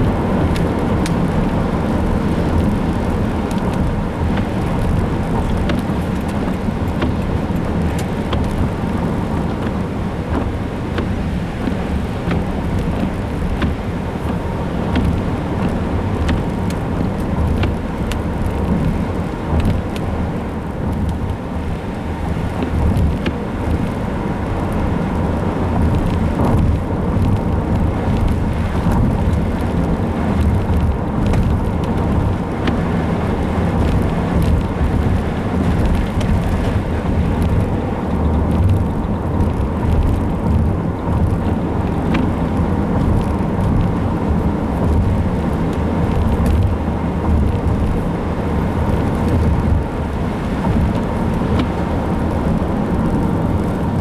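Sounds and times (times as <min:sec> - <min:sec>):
vehicle rumbling on road: 0:00.0 - 0:54.0.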